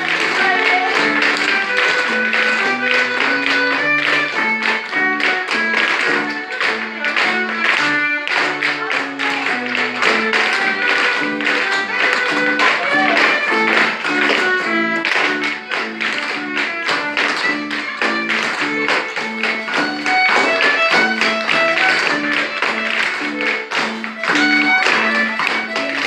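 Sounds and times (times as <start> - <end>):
clog dancers tapping on floor: 0.0 - 26.0
instrumental music: 0.0 - 26.0.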